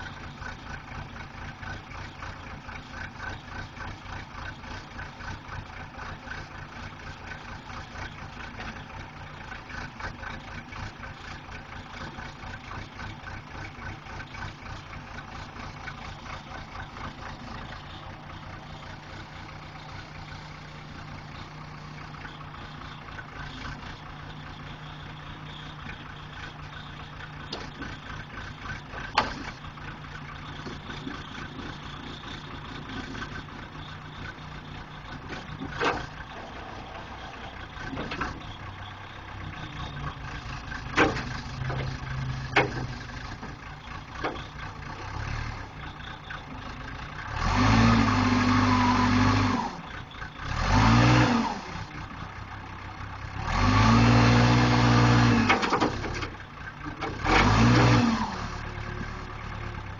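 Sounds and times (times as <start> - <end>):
backhoe engine idling and revving: 0.0 - 59.9.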